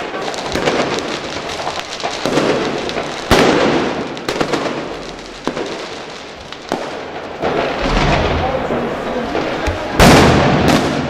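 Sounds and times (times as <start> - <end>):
firecracker bangs: 0.0 - 11.0.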